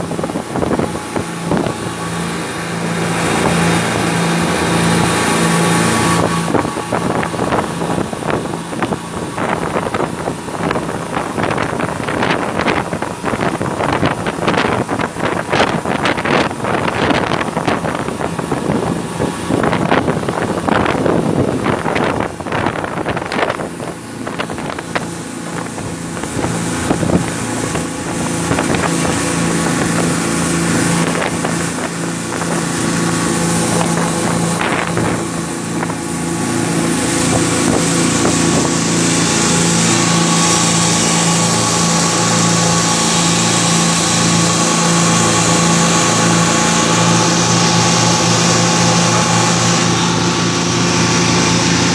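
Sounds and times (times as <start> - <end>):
motorboat engine running: 0.0 - 51.9
wind buffeting microphone: 0.0 - 51.9.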